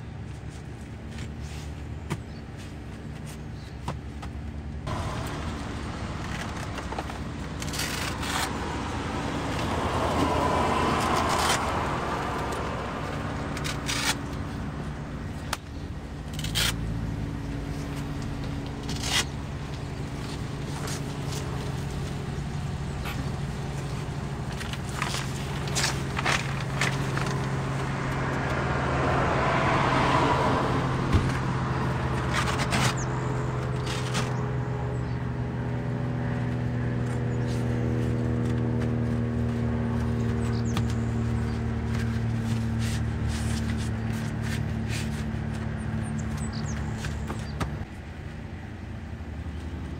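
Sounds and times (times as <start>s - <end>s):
traffic passing: 0.0s - 49.9s.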